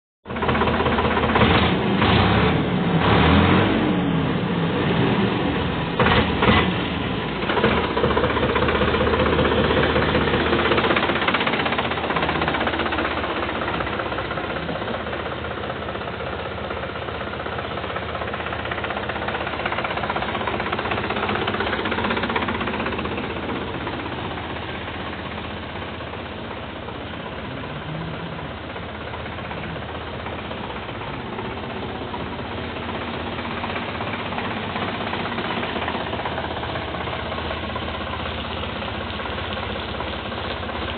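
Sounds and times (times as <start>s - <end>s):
tractor diesel engine idling: 0.2s - 40.9s.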